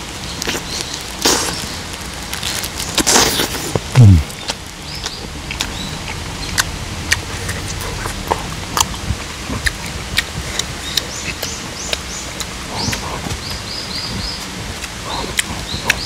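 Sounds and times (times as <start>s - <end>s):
close chewing with mouth smacks: 0.3s - 16.0s.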